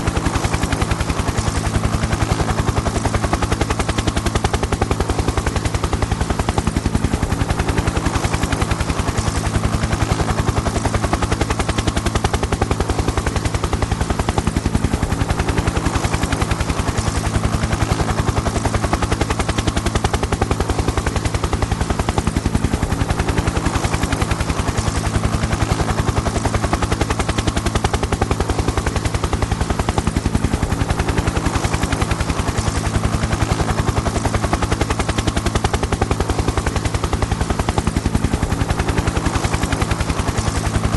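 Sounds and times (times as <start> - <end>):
engine drone: 0.0 - 40.9
helicopter rotor chopping: 0.0 - 40.9.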